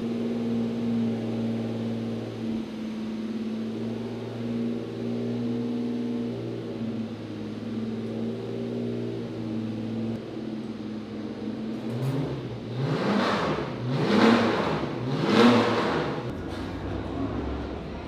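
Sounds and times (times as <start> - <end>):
car engine running and revving: 0.0 - 18.0.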